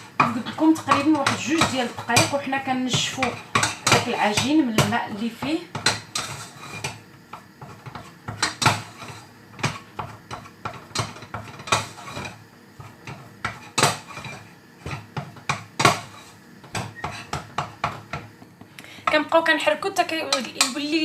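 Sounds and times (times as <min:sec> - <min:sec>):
utensil scraping a saucepan: 0:00.0 - 0:18.2.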